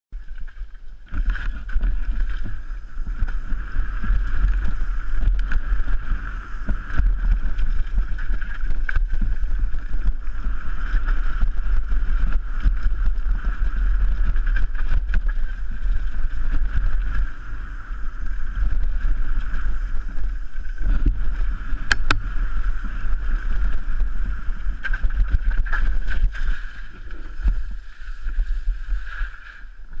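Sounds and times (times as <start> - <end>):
wind buffeting microphone: 0.2 - 30.0.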